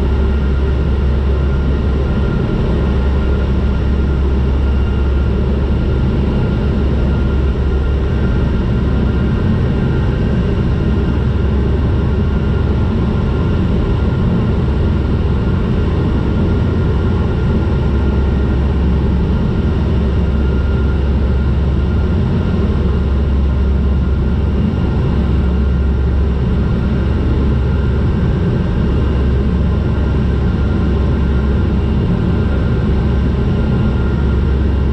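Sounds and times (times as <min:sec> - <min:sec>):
propeller engines droning in cabin: 0:00.0 - 0:34.9.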